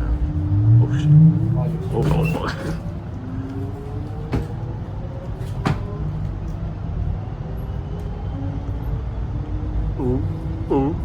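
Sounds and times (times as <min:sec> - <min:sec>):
train rumble from inside carriage: 0:00.0 - 0:11.0.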